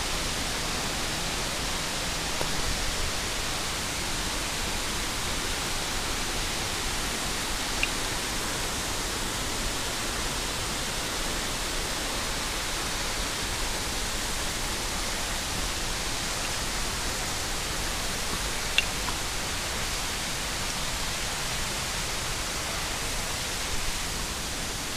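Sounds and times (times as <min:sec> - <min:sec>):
stream water rushing: 0:00.0 - 0:24.9.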